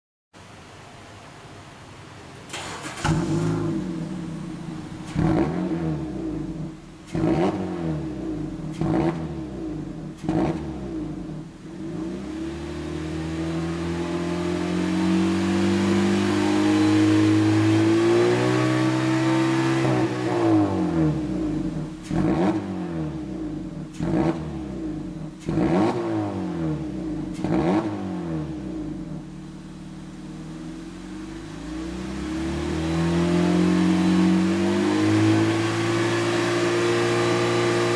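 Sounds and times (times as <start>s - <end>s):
car engine revving: 2.5s - 37.9s.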